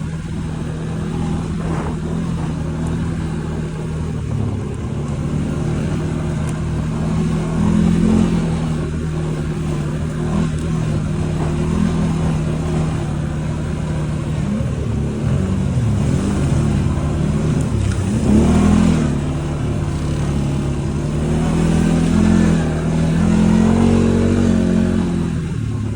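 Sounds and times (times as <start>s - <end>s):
quad bike engine revving: 0.0s - 25.9s.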